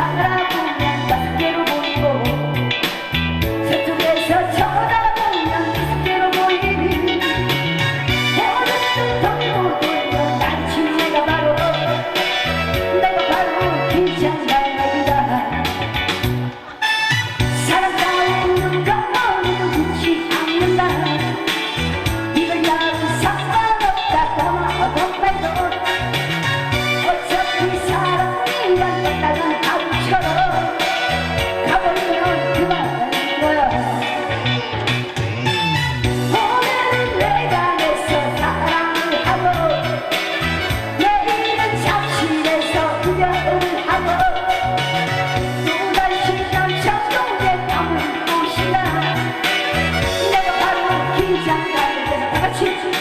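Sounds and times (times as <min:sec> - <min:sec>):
person singing: 0:00.0 - 0:53.0
upbeat song with bass line: 0:00.0 - 0:53.0.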